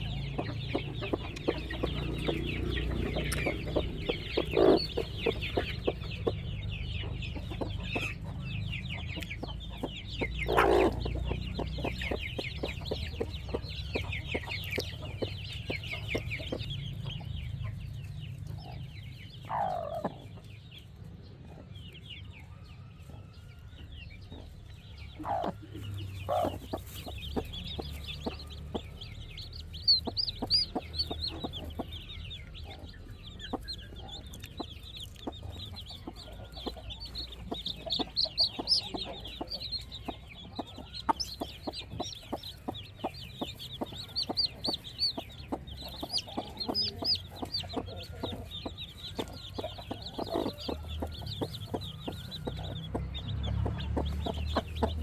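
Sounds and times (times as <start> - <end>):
hen clucking: 0.0 - 20.5, 24.3 - 55.0
chicks cheeping: 0.0 - 55.0.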